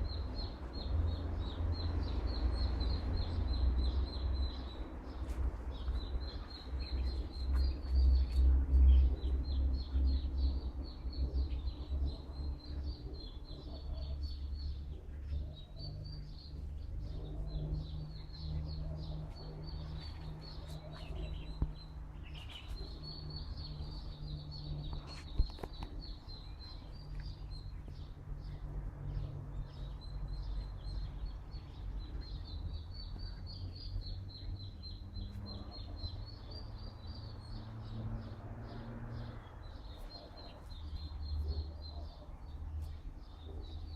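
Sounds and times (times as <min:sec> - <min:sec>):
small bird chirping: 0:00.0 - 0:43.9.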